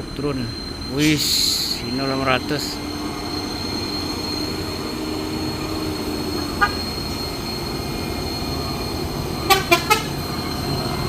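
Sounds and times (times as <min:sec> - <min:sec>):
thin high whine: 0:00.0 - 0:11.0
truck engines and tyres rumbling: 0:00.0 - 0:11.0
horn beep: 0:00.9 - 0:11.0.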